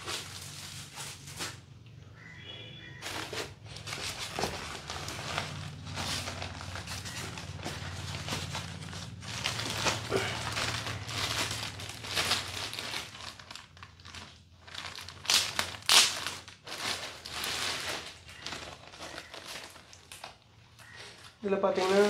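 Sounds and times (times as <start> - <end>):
plastic bags crinkling: 0.0 - 1.7, 2.8 - 22.0.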